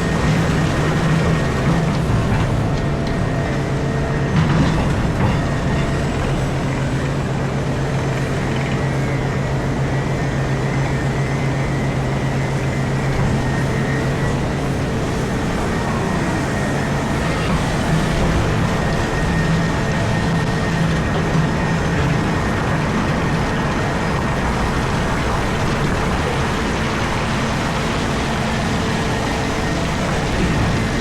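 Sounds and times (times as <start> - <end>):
excavator machine drone: 0.0 - 31.0.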